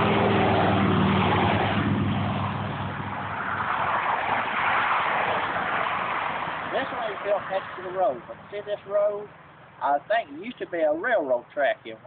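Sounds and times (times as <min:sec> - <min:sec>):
steady rushing noise: 0:00.0 - 0:10.9
vehicle engine hum: 0:00.0 - 0:12.0.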